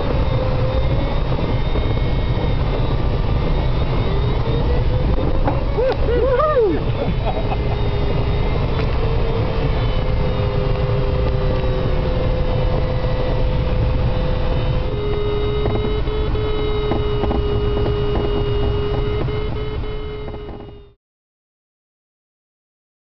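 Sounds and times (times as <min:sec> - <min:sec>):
airflow rushing in glider cockpit: 0:00.0 - 0:21.0.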